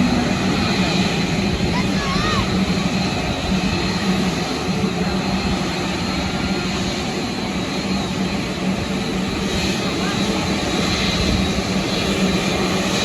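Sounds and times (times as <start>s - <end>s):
jet airliner engines running: 0.0s - 13.0s.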